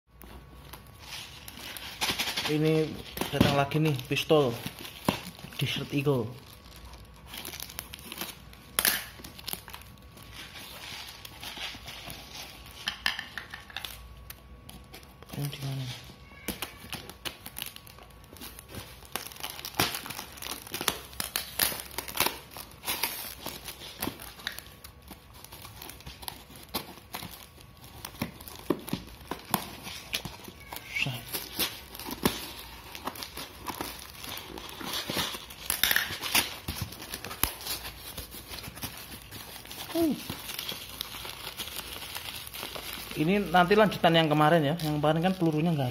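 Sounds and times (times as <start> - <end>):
cardboard ripping and crinkling: 0.4 - 12.8, 14.7 - 45.9
tape and plastic peeled off box: 0.6 - 45.9.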